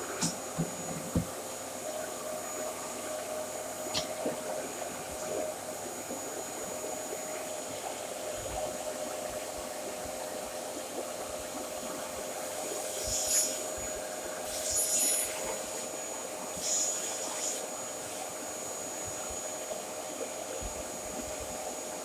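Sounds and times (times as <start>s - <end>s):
vacuum cleaner whining: 0.0s - 10.3s, 12.0s - 22.0s.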